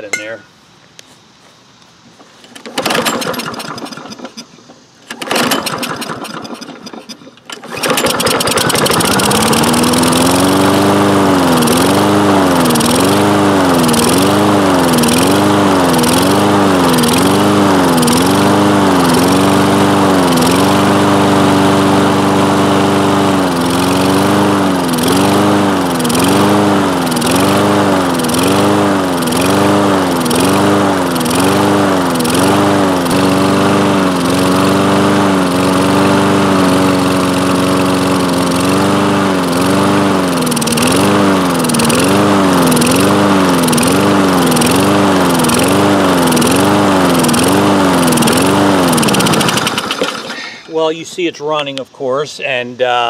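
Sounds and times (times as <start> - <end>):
lawn mower engine surging: 2.0 - 51.6.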